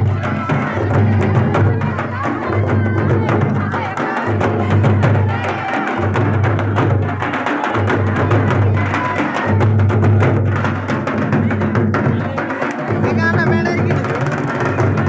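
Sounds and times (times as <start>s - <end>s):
hand drums beaten fast: 0.0s - 15.0s.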